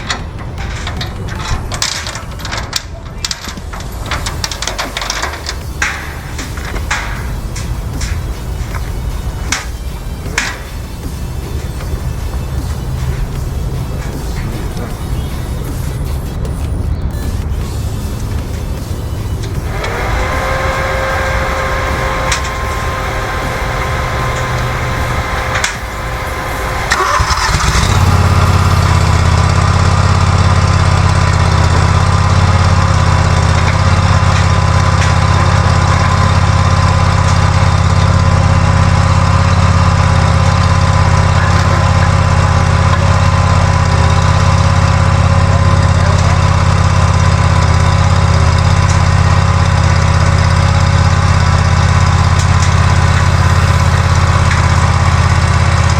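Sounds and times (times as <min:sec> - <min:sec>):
stump grinder engine droning: 0:00.0 - 0:55.9.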